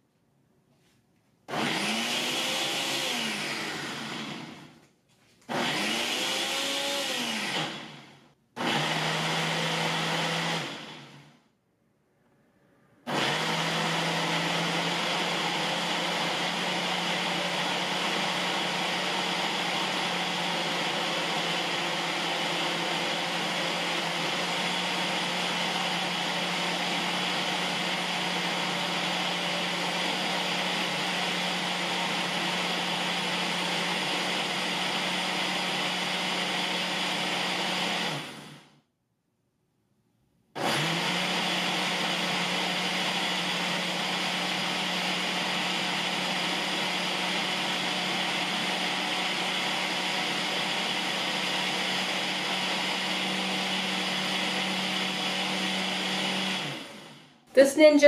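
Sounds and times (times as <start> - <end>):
blender motor whirring: 1.5 - 11.4, 13.1 - 38.8, 40.6 - 58.0.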